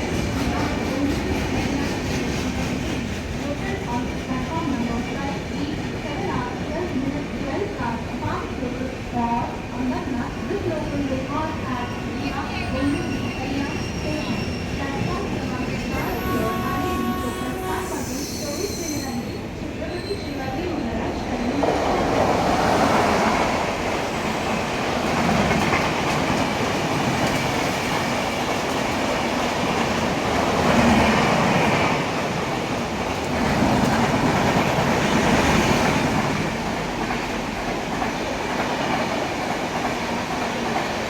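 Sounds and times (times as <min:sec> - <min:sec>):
train rumbling on rails: 0:00.0 - 0:41.0.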